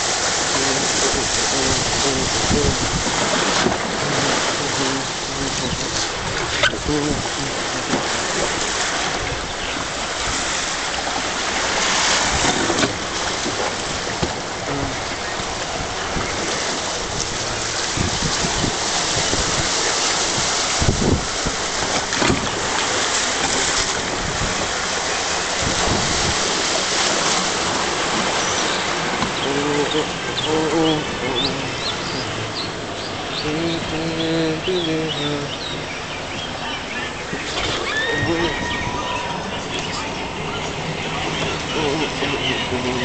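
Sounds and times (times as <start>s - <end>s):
whitewater rushing: 0.0s - 43.0s.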